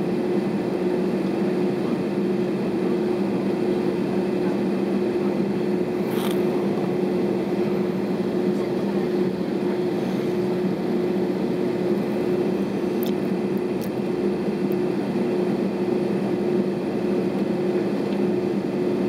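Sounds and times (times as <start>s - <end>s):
cabin air hum: 0.0s - 19.0s
jet engines idling: 0.0s - 19.0s.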